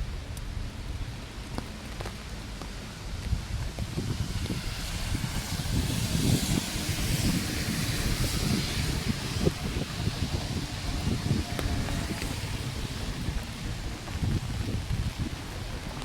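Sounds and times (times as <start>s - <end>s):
steady rain hiss: 0.0s - 16.0s
wind buffeting microphone: 0.0s - 16.0s.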